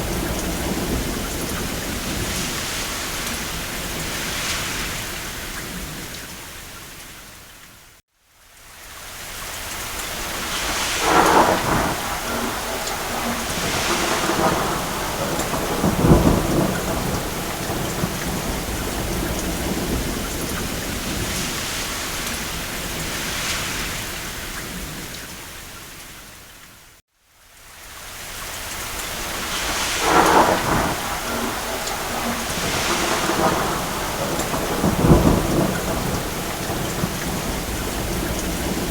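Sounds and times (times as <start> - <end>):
thunder rumble: 0.0 - 6.4, 10.0 - 25.3, 29.0 - 38.9
crackling thunder claps: 0.0 - 6.5, 9.8 - 25.5, 28.8 - 38.9
steady rain: 0.0 - 38.9.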